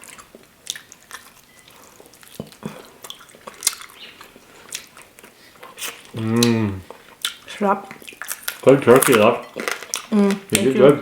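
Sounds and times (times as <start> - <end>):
wet chewing: 0.0 - 10.7.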